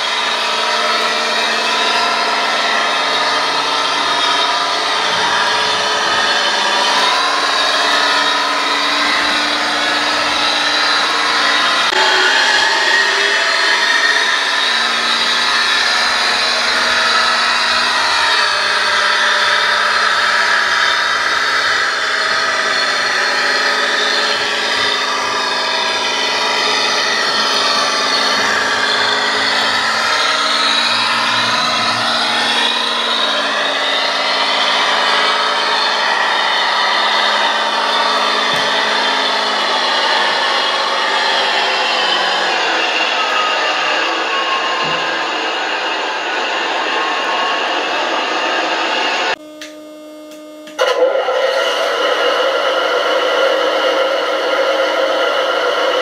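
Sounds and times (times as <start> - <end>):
model tractor electric motor whine: 0.0 - 56.0.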